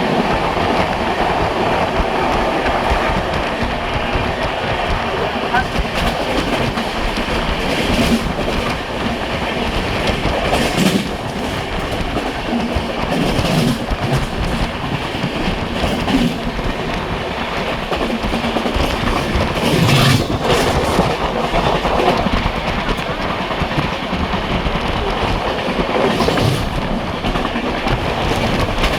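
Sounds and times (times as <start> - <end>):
train rumbling at speed: 0.0 - 28.9
wheels ticking over rail joints: 0.0 - 28.9.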